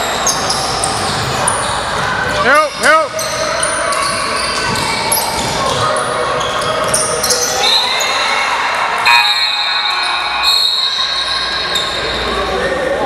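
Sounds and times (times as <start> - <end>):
sneakers squeaking on floor: 0.0 - 8.4, 9.1 - 12.5
echoing hall noise: 0.0 - 13.0.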